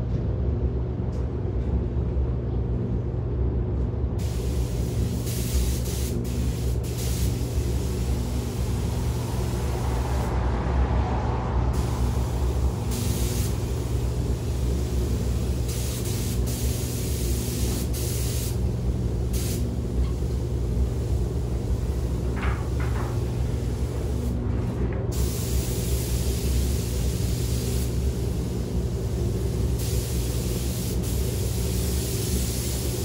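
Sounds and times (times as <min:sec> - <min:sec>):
low hum of spray booth: 0:00.0 - 0:33.0
spray gun hissing: 0:04.2 - 0:10.3, 0:11.8 - 0:24.4, 0:25.1 - 0:33.0.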